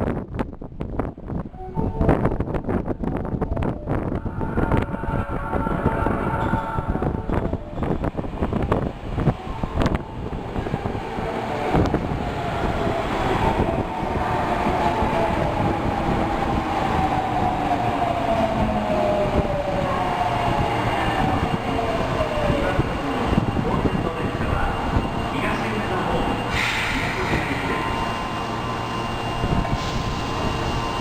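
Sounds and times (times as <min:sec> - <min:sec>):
subway train running: 0:00.1 - 0:31.0.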